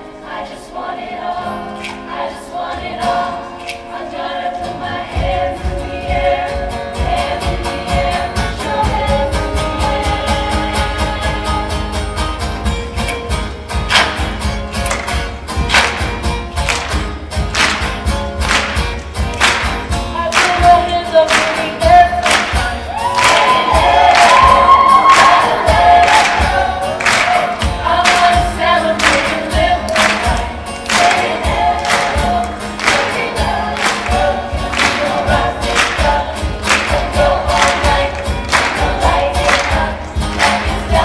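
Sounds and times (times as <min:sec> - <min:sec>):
choir singing pop song: 0:00.0 - 0:12.0, 0:20.2 - 0:41.0
live band: 0:03.1 - 0:41.0
steady drum beat: 0:05.1 - 0:11.4, 0:13.9 - 0:41.0.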